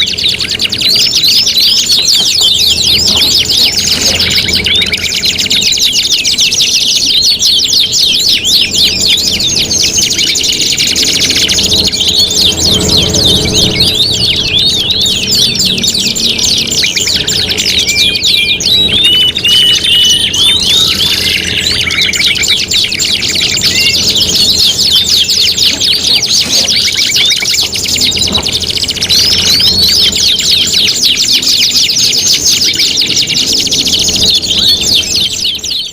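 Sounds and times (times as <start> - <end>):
canaries singing trills: 0.0 - 35.9
whistled bird notes: 0.0 - 35.9.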